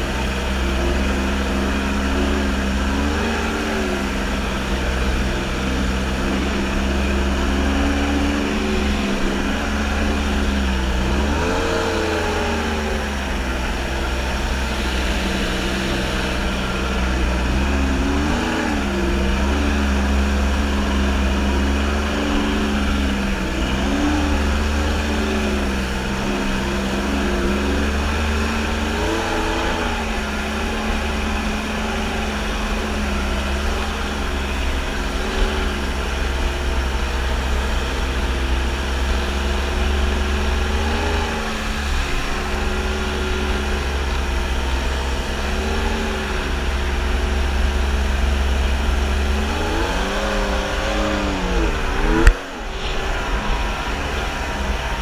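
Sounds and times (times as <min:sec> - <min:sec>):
jet ski engine revving: 0:00.0 - 0:55.0.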